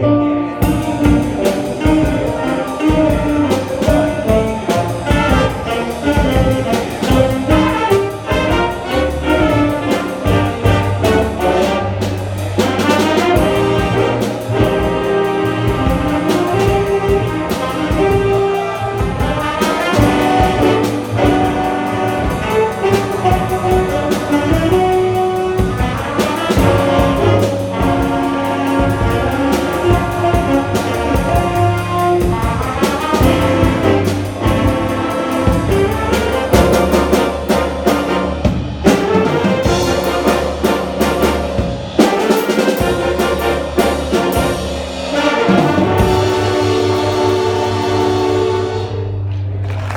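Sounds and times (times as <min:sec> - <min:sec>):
jazz band playing: 0:00.0 - 0:49.9.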